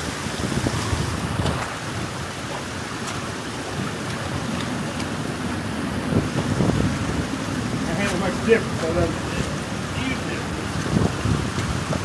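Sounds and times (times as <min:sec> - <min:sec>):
water rushing through dam breach: 0:00.0 - 0:12.0.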